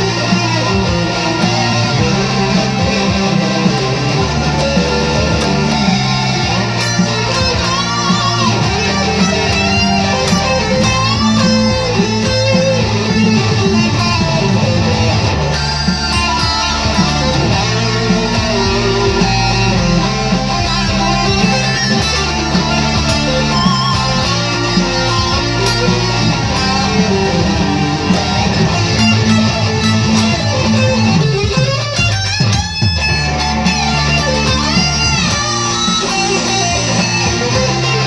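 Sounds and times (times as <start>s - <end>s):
electric guitar solo: 0.0s - 38.0s
rock backing track: 0.0s - 38.0s.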